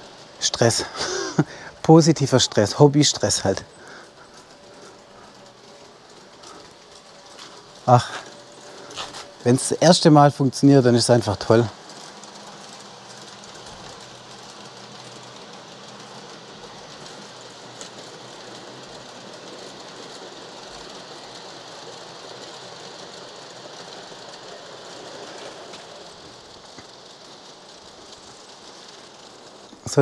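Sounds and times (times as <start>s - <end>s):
model trains whirring on track: 0.0s - 30.0s.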